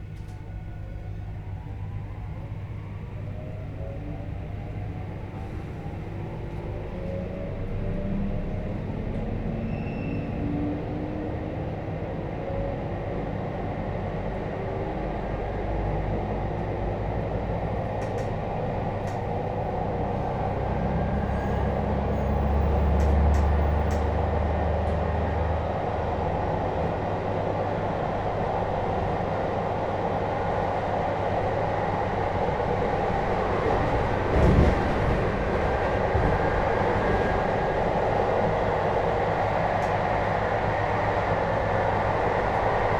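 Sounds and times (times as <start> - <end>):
train inverter whine: 0.0 - 42.9
wheels rumbling on track: 0.0 - 42.9.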